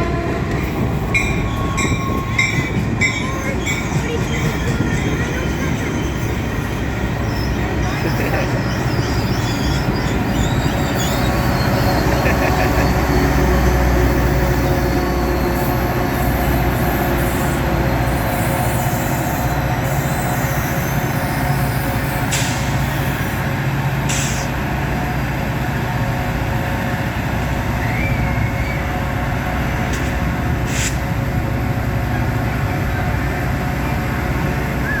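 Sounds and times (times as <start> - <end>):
train rumbling and humming: 0.0 - 35.0.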